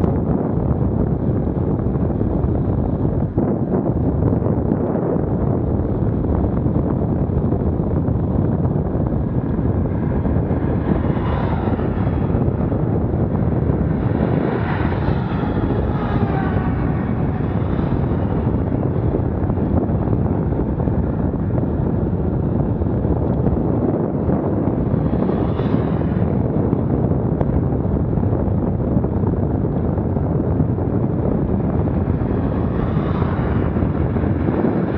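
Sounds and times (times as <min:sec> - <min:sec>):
wind on microphone: 0:00.0 - 0:34.9
vehicle passing with whine: 0:00.1 - 0:34.9.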